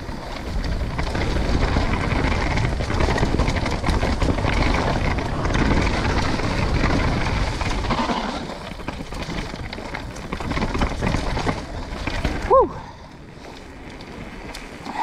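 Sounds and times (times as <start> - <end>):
bike rattling and knocking: 0.0 - 15.0
bike tyres rumbling on dirt: 0.0 - 15.0.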